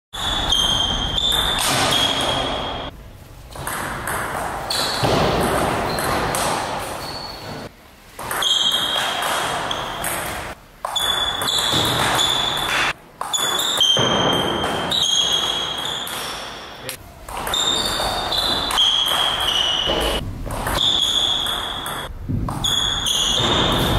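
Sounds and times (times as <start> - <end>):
table tennis ball pinging: 0.2 - 7.1, 8.2 - 23.9.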